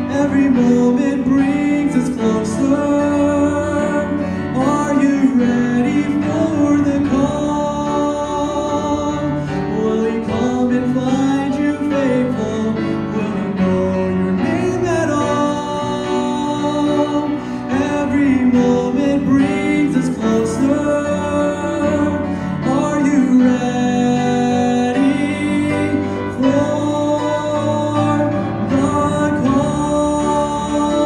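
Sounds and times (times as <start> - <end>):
instrumental accompaniment: 0.0 - 31.0
man singing gospel song: 0.0 - 31.0.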